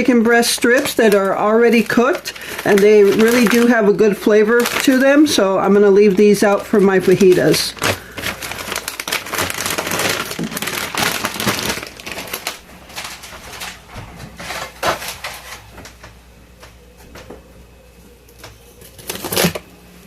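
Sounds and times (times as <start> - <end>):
frozen packages knocking: 0.0 - 16.2
plastic packaging crinkling: 0.0 - 17.2, 18.2 - 20.0.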